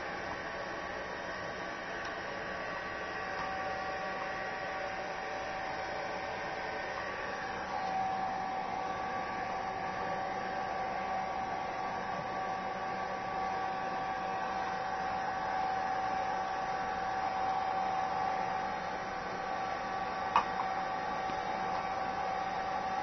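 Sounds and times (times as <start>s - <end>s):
hair dryer blowing: 2.4s - 23.0s.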